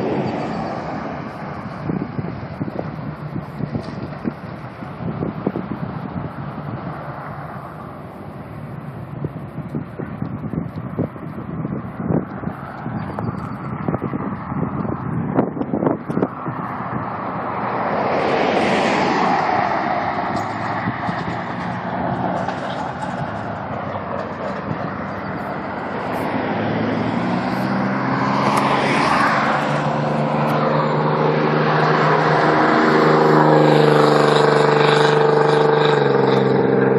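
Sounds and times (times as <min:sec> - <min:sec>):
car engine approaching: 0:00.0 - 0:36.9
cars passing on road: 0:00.0 - 0:36.9.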